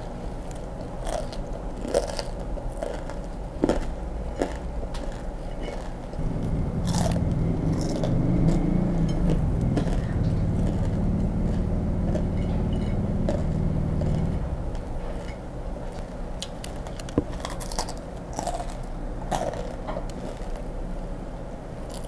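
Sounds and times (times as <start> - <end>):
crunchy chewing: 0.0 - 20.8, 21.8 - 22.0
low steady rumble: 0.0 - 22.0.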